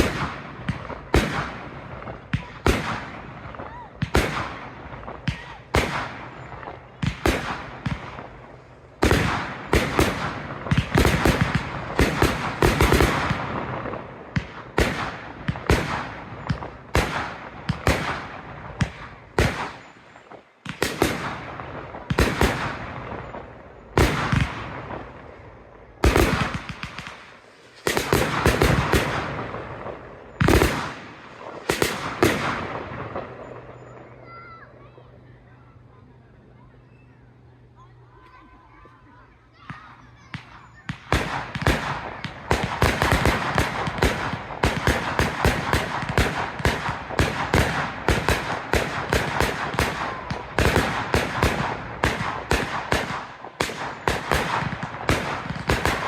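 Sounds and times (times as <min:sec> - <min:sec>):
fireworks bursting in sharp bangs: 0:00.0 - 0:34.7, 0:39.6 - 0:56.0.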